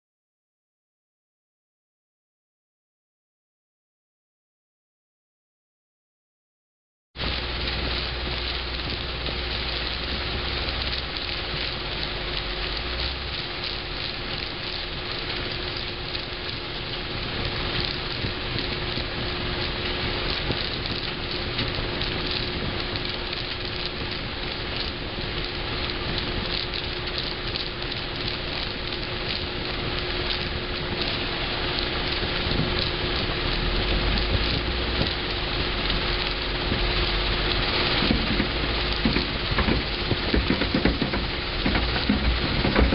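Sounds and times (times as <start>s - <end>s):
deep rumble: 7.2s - 42.9s
soil and stones pouring: 7.2s - 42.9s.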